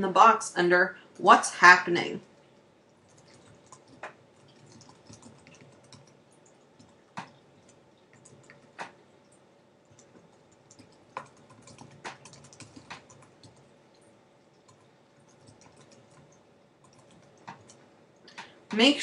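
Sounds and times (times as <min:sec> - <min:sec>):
typing on computer keyboard: 0:02.9 - 0:18.6.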